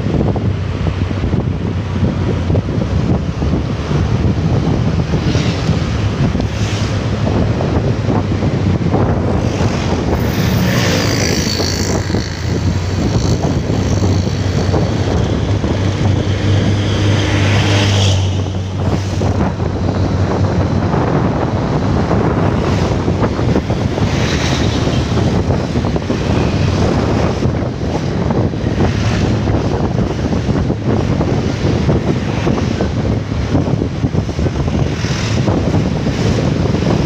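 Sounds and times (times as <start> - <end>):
motorcycle engine drone: 0.0 - 37.0
road noise: 0.0 - 37.0
truck passing: 0.0 - 37.0
wind buffeting microphone: 0.0 - 37.0.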